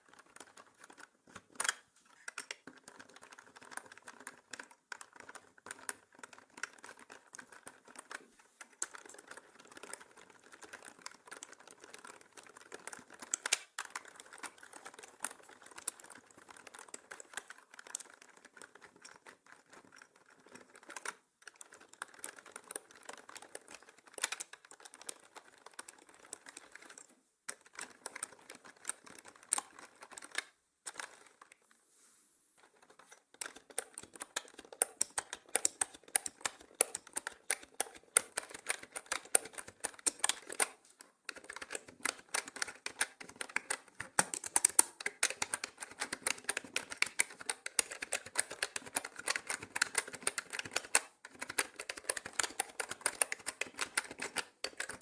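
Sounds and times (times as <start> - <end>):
mechanical keyboard typing: 0.0 - 31.6, 32.6 - 55.0.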